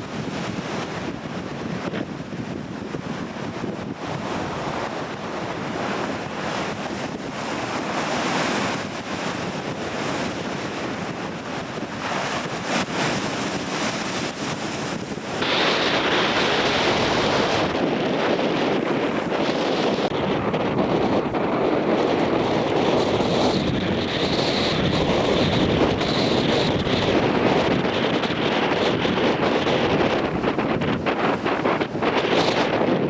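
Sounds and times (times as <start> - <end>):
surf breaking on rocks: 0.0 - 33.0
wave crashing: 0.0 - 33.0
wind buffeting microphone: 0.0 - 33.0.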